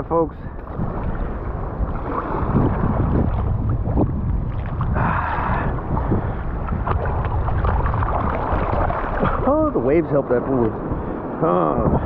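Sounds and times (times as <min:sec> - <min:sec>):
surf sloshing and splashing: 0:00.0 - 0:12.0
wind buffeting microphone: 0:00.0 - 0:12.0.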